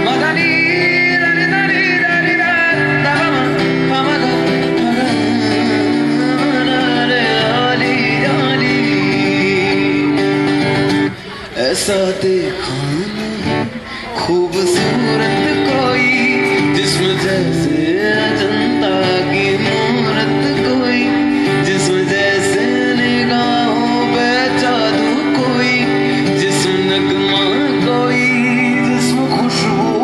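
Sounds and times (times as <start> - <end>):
acoustic guitar strumming: 0.0 - 30.0
man singing into a microphone: 0.0 - 30.0.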